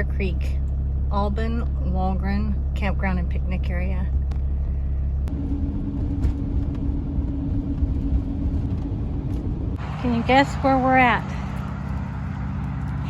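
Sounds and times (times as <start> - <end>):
steady low drone: 0.0 - 13.0
vehicle engine and road rumble: 0.0 - 13.0.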